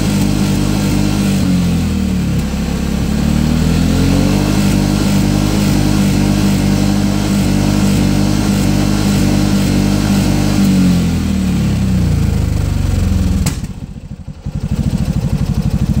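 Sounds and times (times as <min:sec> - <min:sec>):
scooter engine idling roughly: 0:00.0 - 0:16.0.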